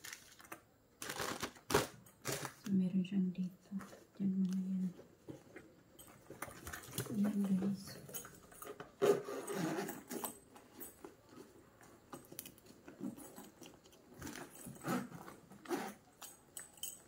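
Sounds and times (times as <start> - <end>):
plastic wrapping rustling: 0.0 - 2.8, 3.8 - 17.0.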